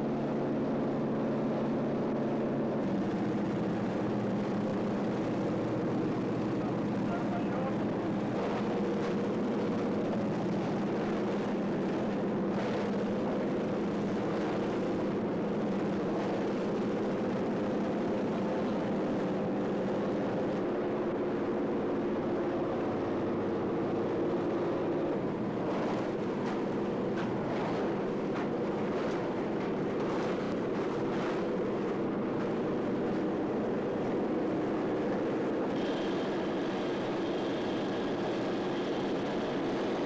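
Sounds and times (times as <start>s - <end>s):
propeller aircraft engine droning: 0.0s - 40.0s.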